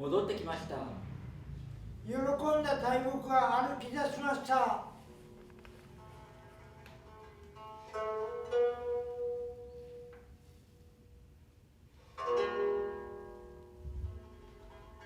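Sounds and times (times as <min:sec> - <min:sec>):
plucked string instrument: 0:01.0 - 0:15.0.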